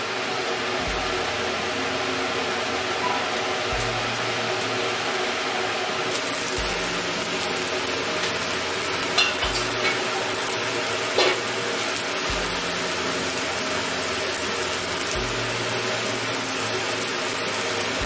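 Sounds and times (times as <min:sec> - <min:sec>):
cooktop humming: 0:00.0 - 0:18.0
water hissing in a wok: 0:00.0 - 0:18.0.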